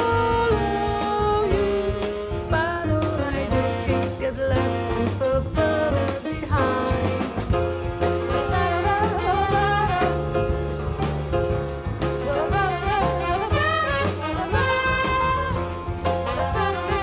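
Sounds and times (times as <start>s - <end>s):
woman singing: 0.0s - 7.6s, 8.3s - 10.4s, 12.2s - 17.0s
jazz band playing: 0.0s - 17.0s.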